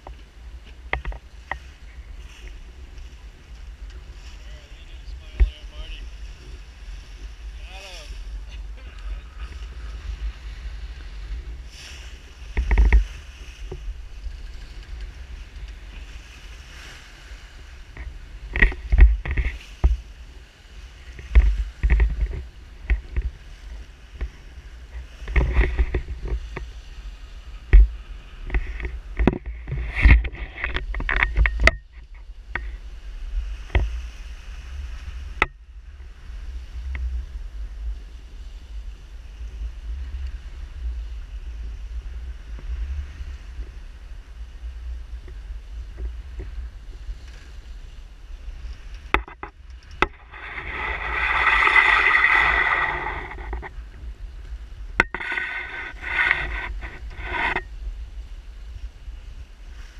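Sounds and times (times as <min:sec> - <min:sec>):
water rushing along hull: 0:00.0 - 0:59.9
wind buffeting microphone: 0:00.0 - 0:59.9.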